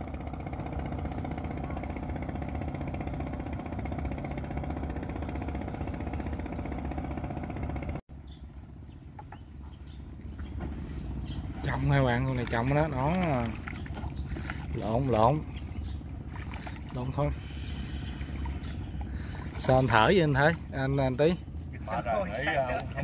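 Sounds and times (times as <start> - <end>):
small engine running: 0.0 - 8.9, 9.7 - 23.0.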